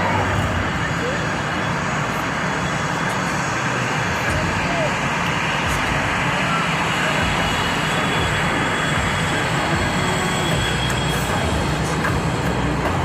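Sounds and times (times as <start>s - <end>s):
faint high whine: 0.0s - 11.8s
jet engines running: 0.0s - 13.0s.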